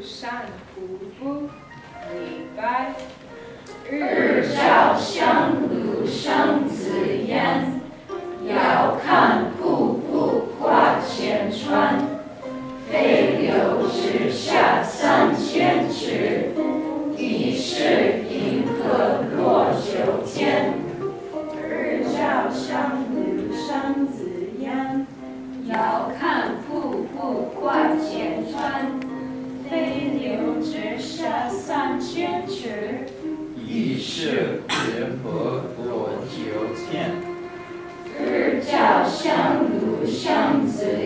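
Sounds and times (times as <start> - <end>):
students reciting in unison: 3.8 - 37.2, 38.1 - 41.0.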